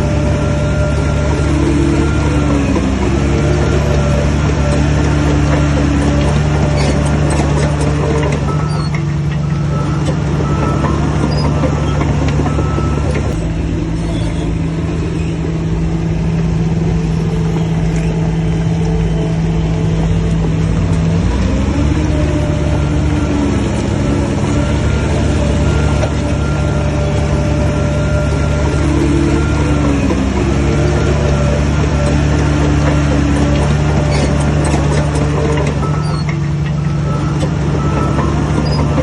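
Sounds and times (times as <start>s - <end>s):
heavy diesel engine under load: 0.0s - 39.0s.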